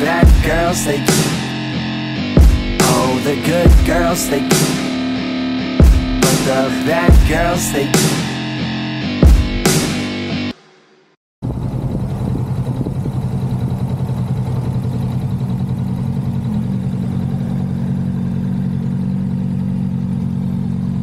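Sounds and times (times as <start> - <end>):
motorcycle engine running: 0.0 - 8.1, 11.4 - 21.0.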